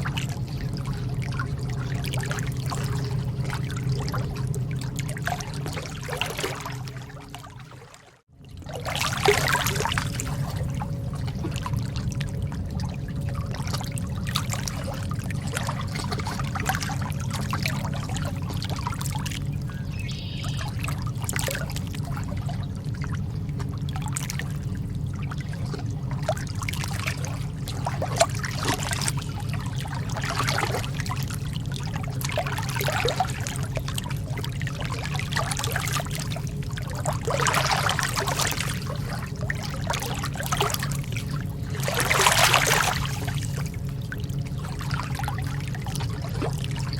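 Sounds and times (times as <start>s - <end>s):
sea water lapping and splashing: 0.0s - 46.9s
steady low hum: 0.0s - 46.9s.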